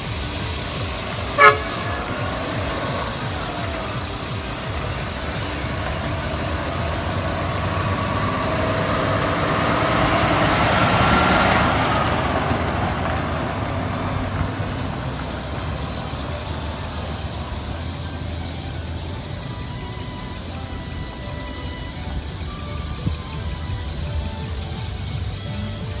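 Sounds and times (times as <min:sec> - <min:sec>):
heavy truck driving past: 0:00.0 - 0:26.0.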